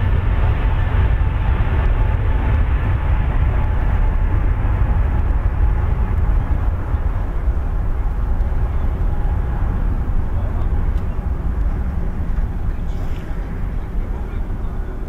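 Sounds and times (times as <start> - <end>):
jet engines roaring on takeoff: 0.0 - 15.0.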